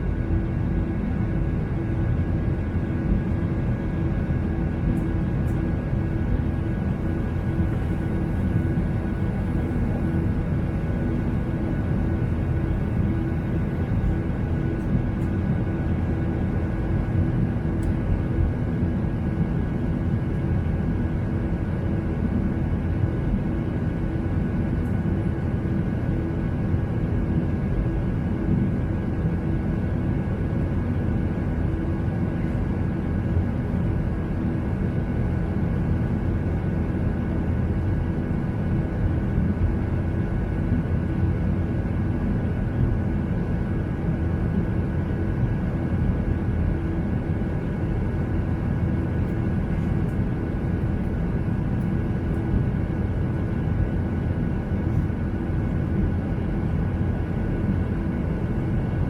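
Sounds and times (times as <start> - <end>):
faint steady hum and whine: 0.0 - 59.0.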